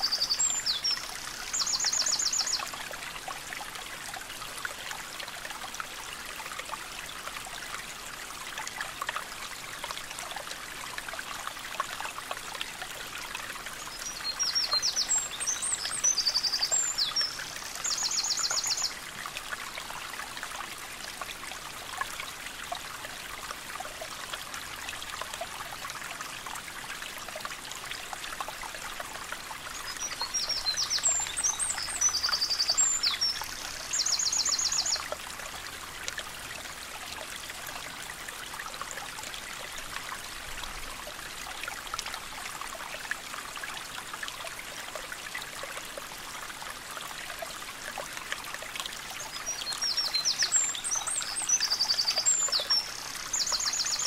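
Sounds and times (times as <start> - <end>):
babbling stream: 0.0 - 54.0.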